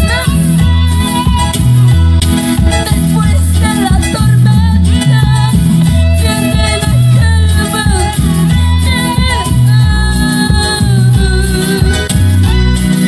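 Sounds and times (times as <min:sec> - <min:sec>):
bass line: 0:00.0 - 0:13.0
drums: 0:00.0 - 0:13.0
keyboards: 0:00.0 - 0:13.0
woman singing: 0:00.0 - 0:13.0.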